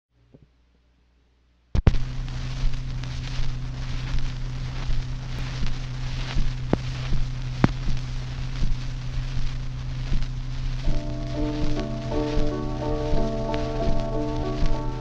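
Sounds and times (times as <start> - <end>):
steady electrical hum: 0.2 - 15.0
hiss and crackles: 1.7 - 15.0.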